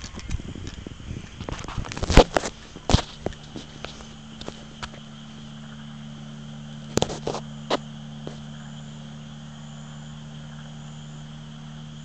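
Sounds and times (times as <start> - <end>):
crickets chirping: 0.0 - 12.0
steady low hum: 0.0 - 12.0.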